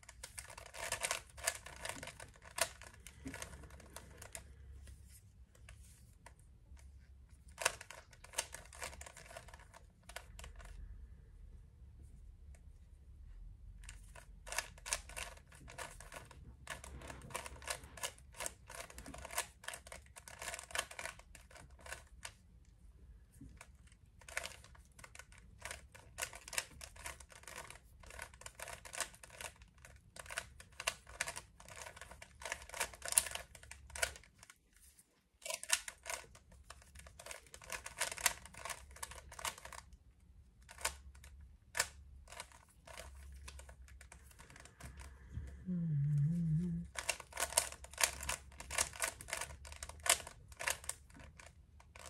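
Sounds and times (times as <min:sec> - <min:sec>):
plastic puzzle cube clattering: 0:00.0 - 0:04.5, 0:07.4 - 0:10.8, 0:13.8 - 0:22.4, 0:23.5 - 0:40.0, 0:40.6 - 0:45.1, 0:46.9 - 0:52.0.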